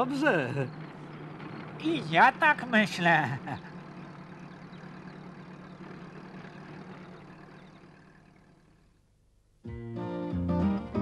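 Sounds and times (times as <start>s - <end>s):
van engine running: 0.0s - 9.4s.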